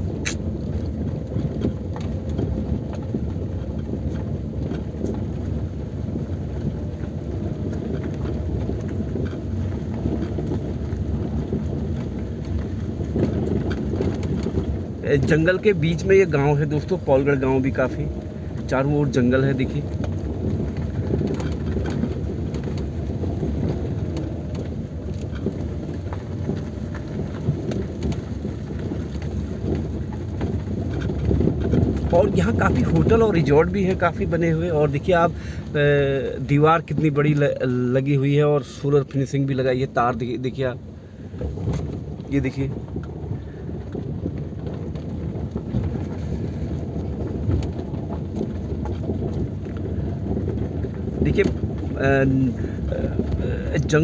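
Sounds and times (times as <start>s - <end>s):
car tyres and engine rumble: 0.0s - 54.0s
stones clicking under tyres: 0.0s - 54.0s.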